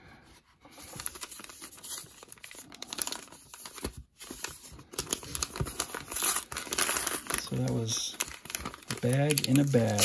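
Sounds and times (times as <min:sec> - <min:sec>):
packaging bag crackling: 0:00.9 - 0:10.0.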